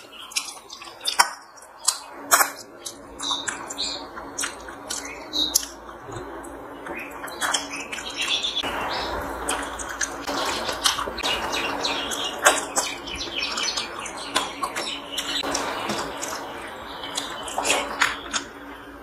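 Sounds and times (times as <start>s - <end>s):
chewing and wet smacking: 0.0s - 8.4s, 9.5s - 18.7s.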